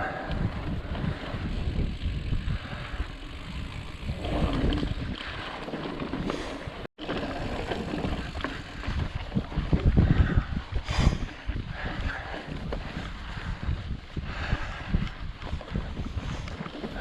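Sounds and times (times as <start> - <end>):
low rumble of tyres: 0.0 - 17.0
wind buffeting microphone: 0.0 - 17.0
mountain bike rattling over rock: 0.5 - 14.0, 15.4 - 17.0.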